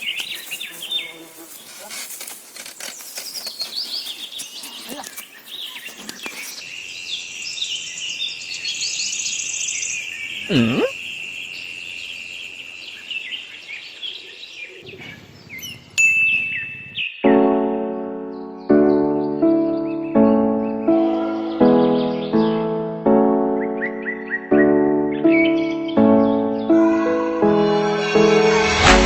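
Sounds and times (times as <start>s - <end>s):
birds chirping: 0.0s - 17.6s, 18.2s - 26.8s.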